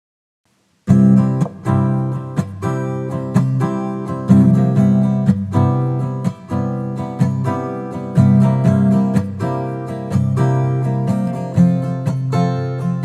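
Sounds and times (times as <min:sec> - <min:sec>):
acoustic guitar strumming chords: 0:00.8 - 0:13.0.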